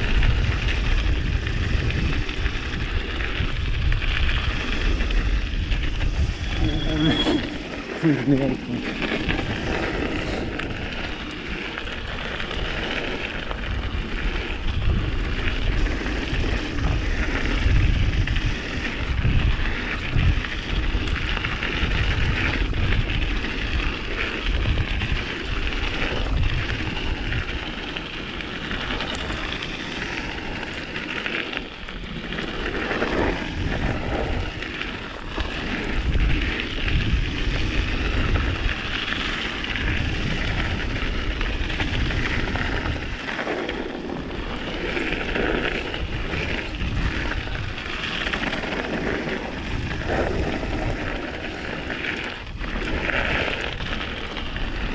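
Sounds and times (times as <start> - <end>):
bike tyres rattling over ground: 0.0 - 54.9
wind on microphone: 0.0 - 54.9.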